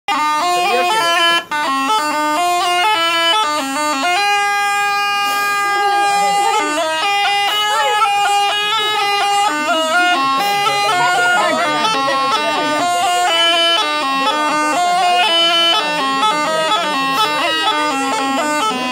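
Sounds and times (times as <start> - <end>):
gourd reed pipe melody: 0.1 - 18.9.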